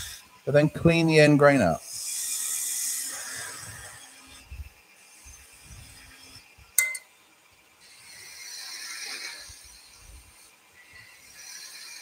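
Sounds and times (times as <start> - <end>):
wood lathe turning: 0.0 - 6.6, 7.8 - 12.0
chisel cutting wood hiss: 0.0 - 6.8, 7.8 - 12.0.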